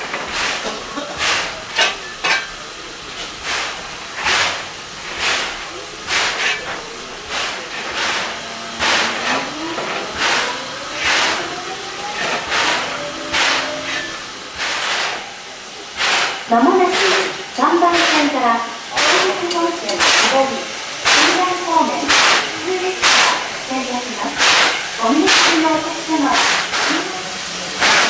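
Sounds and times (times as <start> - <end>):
steam exhaust chuffs: 0.0 - 28.0
steam hiss: 0.0 - 28.0.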